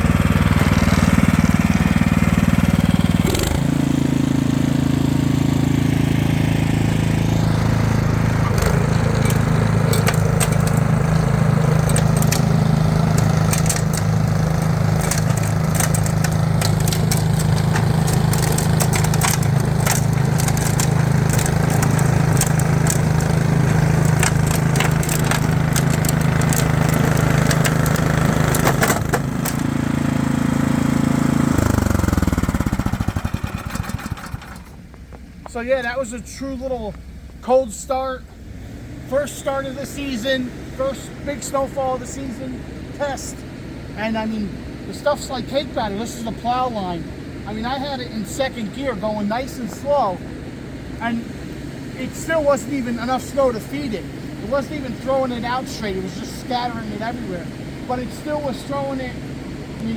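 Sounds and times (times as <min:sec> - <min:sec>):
snowblower engine running: 0:00.0 - 0:59.9.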